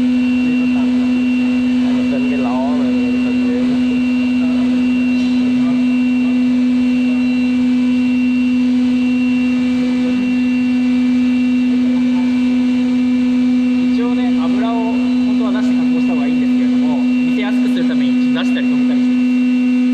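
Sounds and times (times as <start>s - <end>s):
faint high whine: 0.0s - 19.9s
lathe humming: 0.0s - 19.9s.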